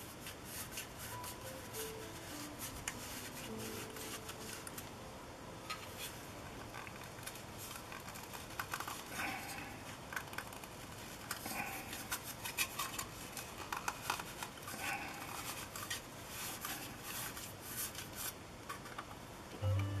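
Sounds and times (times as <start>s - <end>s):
plastic rubbing: 0.0s - 4.8s, 5.7s - 19.1s.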